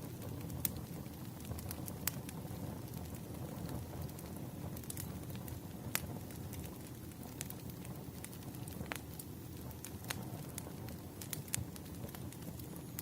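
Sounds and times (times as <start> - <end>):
campfire burning: 0.0 - 13.0
fire crackles and pops: 0.0 - 13.0.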